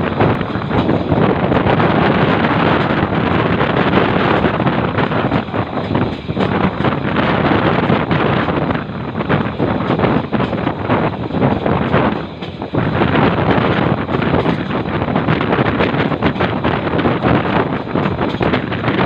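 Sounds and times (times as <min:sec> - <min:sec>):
train rumbling into station: 0:00.0 - 0:19.0
wind buffeting microphone: 0:00.0 - 0:19.0.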